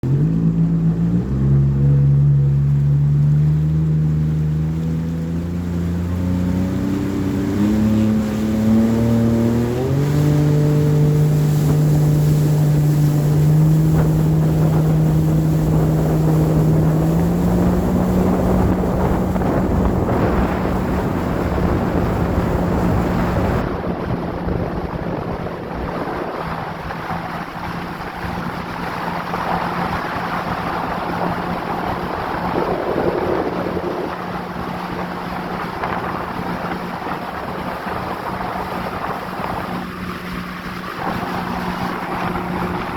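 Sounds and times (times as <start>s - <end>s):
jet ski engine: 0.0s - 42.9s
rushing water: 0.0s - 42.9s
wind on microphone: 3.1s - 42.9s.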